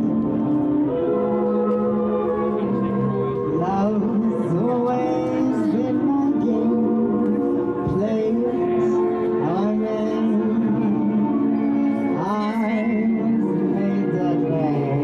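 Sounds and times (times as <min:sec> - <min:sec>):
live stage show music: 0:00.0 - 0:15.0.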